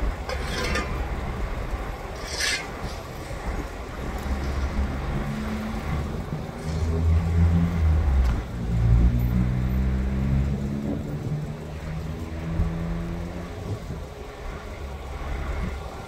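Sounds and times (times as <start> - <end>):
car engines accelerating: 2.8 - 16.0.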